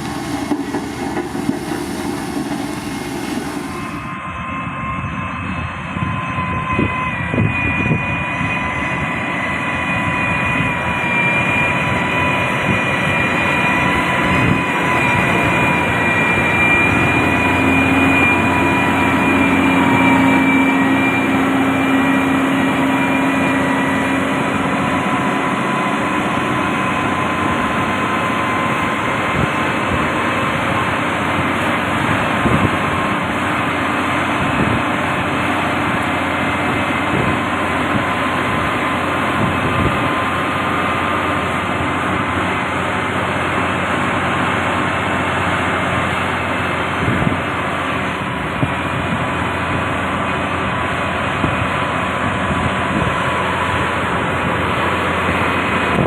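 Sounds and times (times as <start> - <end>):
heavy diesel engine running: 0.0 - 56.0
steady high whine: 0.0 - 56.0.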